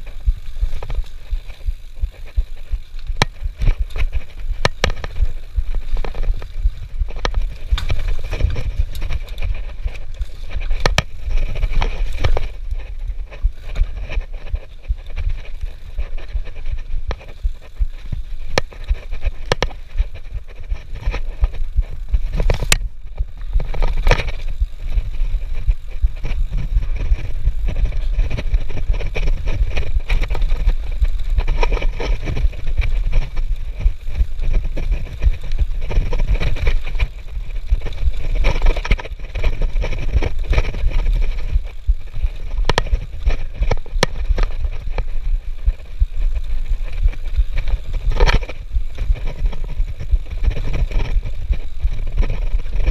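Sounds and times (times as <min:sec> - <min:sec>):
bike rattling and clicking: 0:00.0 - 0:52.9
steady low rumble: 0:00.0 - 0:52.9
tyres rolling over dirt: 0:00.0 - 0:52.9.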